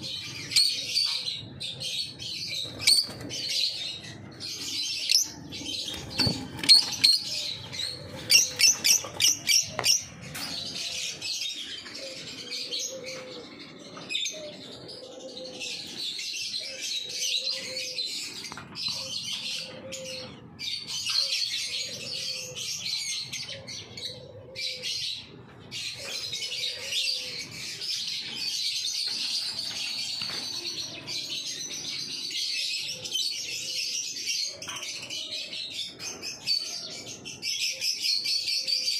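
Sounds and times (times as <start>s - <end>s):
birds chattering and chirping: 0.0s - 38.9s.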